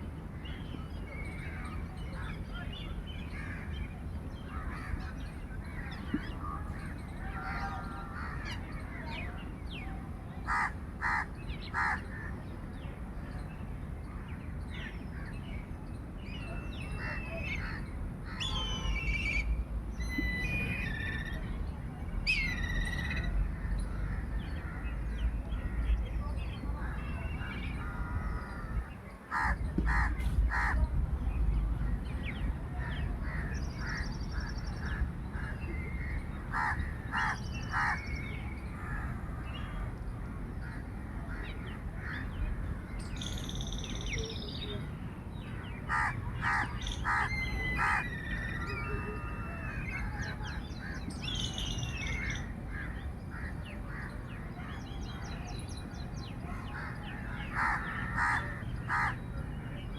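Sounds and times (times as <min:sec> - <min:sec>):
bird chirps and trills: 0:00.4 - 0:59.9.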